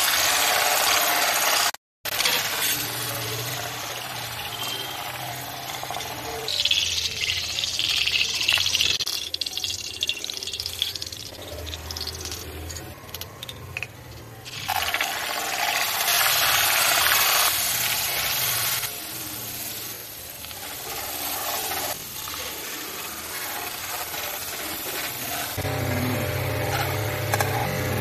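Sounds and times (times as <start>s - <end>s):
spices sizzling in oil: 0.0s - 13.8s, 14.5s - 27.7s
hot oil sizzling: 0.0s - 28.0s.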